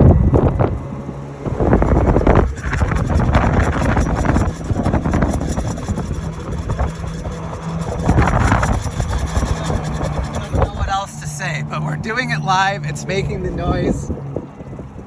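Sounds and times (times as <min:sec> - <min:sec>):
golf cart driving: 0:00.7 - 0:15.0.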